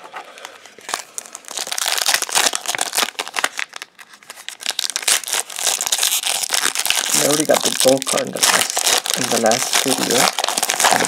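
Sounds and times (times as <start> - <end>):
foil pack crinkling: 0.3 - 11.0.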